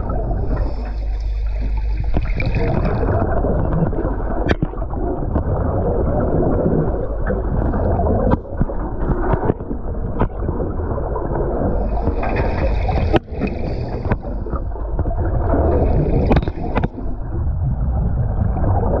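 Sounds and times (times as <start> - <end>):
hissing bubbles: 0.0 - 19.0
underwater rumble of rough water: 0.0 - 19.0.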